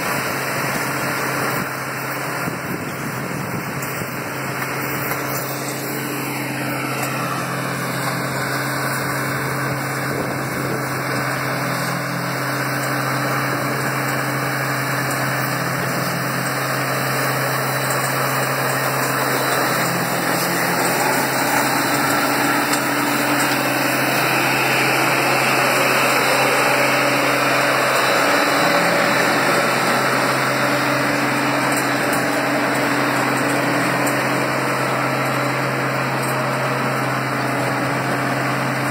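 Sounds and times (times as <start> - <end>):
construction machinery engine: 0.0 - 38.9.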